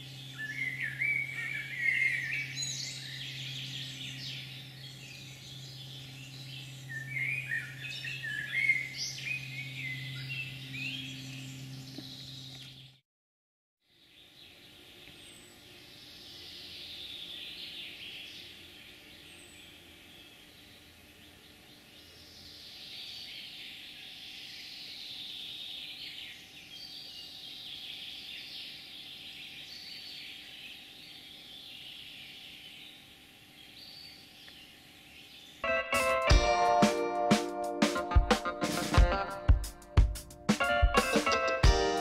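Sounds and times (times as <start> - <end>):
birds chirping and trilling: 0.0 - 13.0, 13.9 - 39.6
faint steady background hum: 0.0 - 13.0, 13.9 - 40.5.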